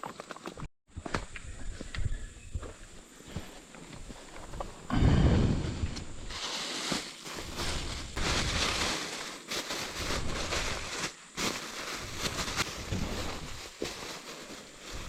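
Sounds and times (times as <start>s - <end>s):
rustling noise: 2.6s - 15.0s.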